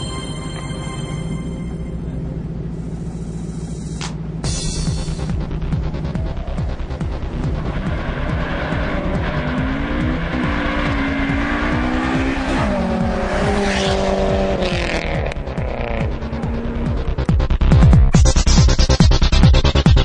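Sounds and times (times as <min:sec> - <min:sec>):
car engine accelerating through gears: 0:01.5 - 0:20.0.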